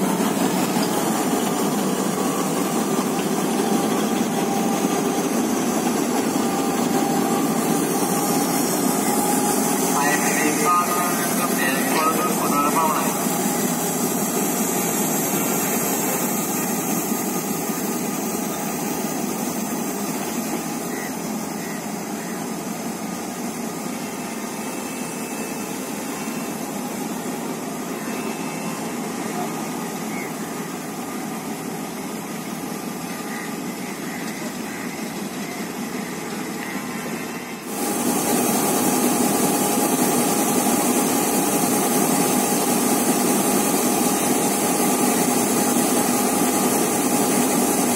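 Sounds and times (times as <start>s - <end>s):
diesel locomotive engine running: 0.0s - 47.9s.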